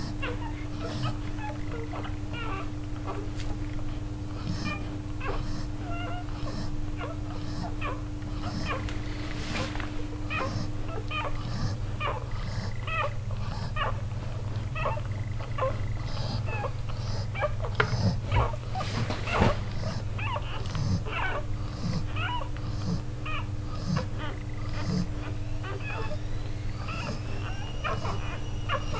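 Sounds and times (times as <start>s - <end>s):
puppies squeaking and whimpering: 0.0s - 28.9s
steady low hum: 0.0s - 28.9s.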